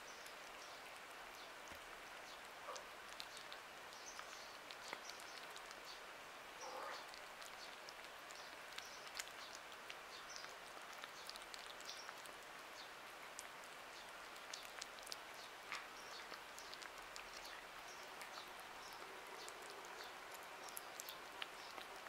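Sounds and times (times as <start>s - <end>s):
kittens chewing wet food: 0.0s - 22.0s.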